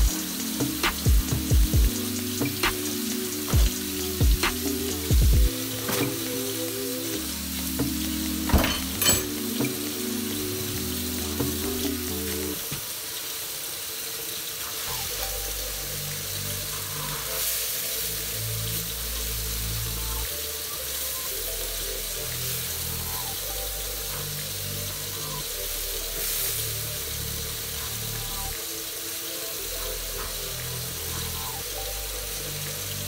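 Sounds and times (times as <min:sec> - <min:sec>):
vegetables sizzling in oil: 0:00.0 - 0:33.0.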